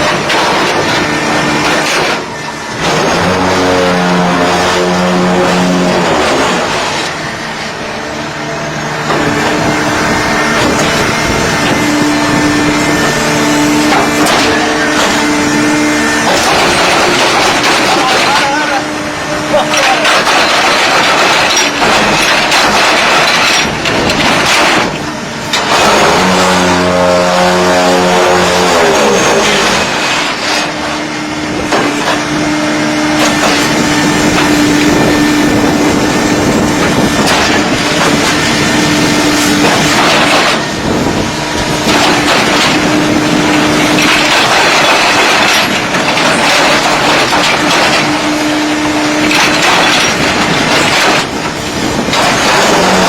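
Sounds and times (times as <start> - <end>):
block making machine rattling: 0.0 - 7.3, 9.1 - 27.3, 31.5 - 53.0
motor falling in pitch: 0.0 - 8.2, 8.8 - 46.1.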